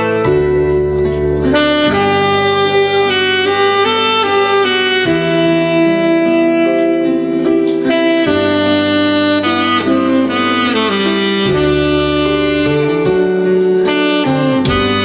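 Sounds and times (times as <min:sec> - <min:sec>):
backing track with bass line: 0:00.0 - 0:15.0
saxophone melody: 0:00.0 - 0:15.0.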